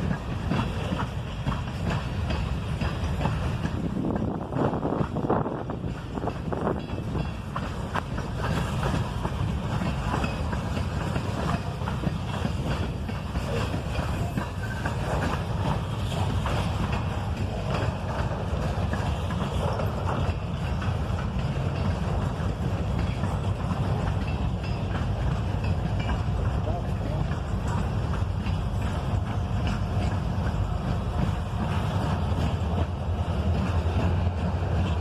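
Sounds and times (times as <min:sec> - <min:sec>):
freight train rumbling past: 0:00.0 - 0:35.0
train wheels clicking and clanking: 0:00.0 - 0:35.0.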